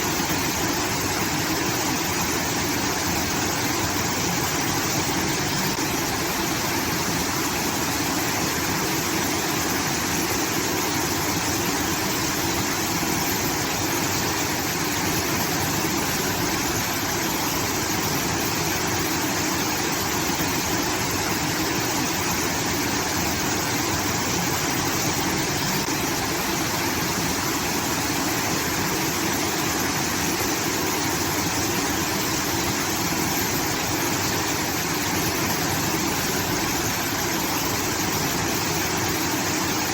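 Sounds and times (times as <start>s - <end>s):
water pouring and rushing: 0.0s - 39.9s.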